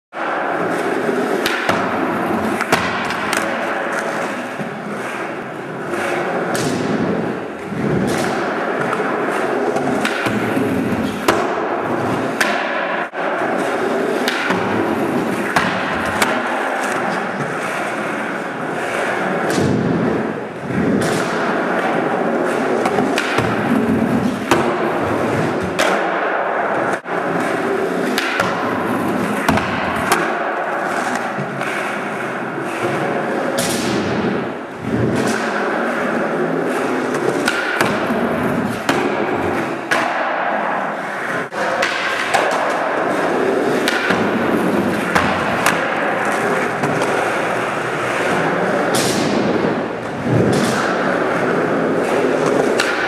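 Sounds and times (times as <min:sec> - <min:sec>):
skateboard clacks on wood: 0:00.2 - 0:53.0
skateboard wheels rolling: 0:00.2 - 0:53.0.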